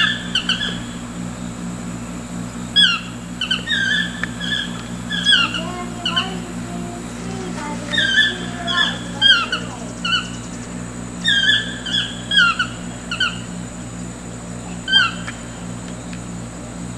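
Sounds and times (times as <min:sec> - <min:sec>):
toucans calling: 0:00.0 - 0:16.4.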